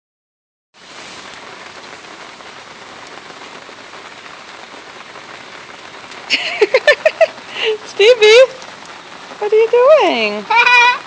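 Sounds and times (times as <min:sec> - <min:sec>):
steady rain falling: 0:00.8 - 0:11.0.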